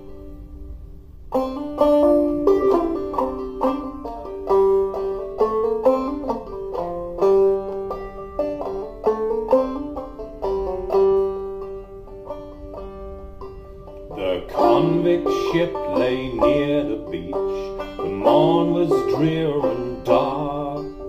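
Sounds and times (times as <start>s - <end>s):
banjo playing: 0.0s - 21.0s.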